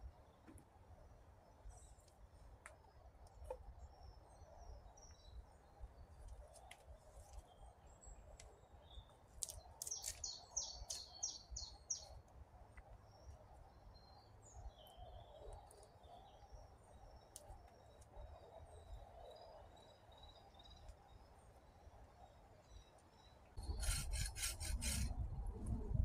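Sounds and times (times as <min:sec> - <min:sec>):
wild birds chirping: 0:00.0 - 0:25.1.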